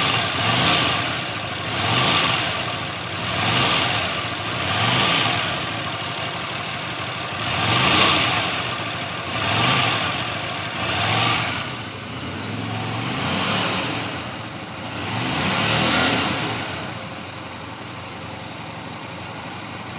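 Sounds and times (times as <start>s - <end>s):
motorcycle engine revving: 0.0s - 17.2s.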